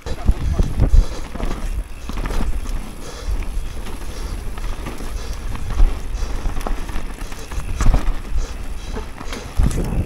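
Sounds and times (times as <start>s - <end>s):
bike rattling over bumps: 0.0s - 10.0s
tyres crackling over dirt and leaves: 0.0s - 10.0s
wind rumbling on microphone: 0.0s - 10.0s.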